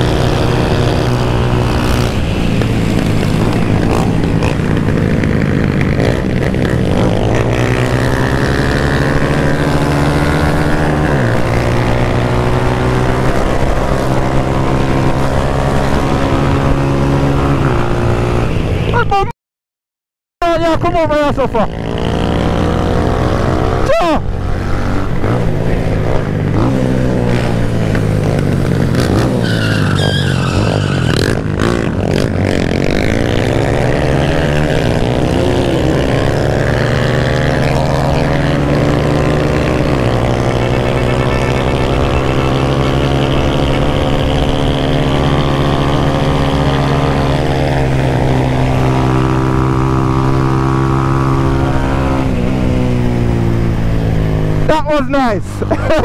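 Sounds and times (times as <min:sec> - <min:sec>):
motorcycle engine accelerating: 0:00.0 - 0:19.1, 0:21.1 - 0:56.0.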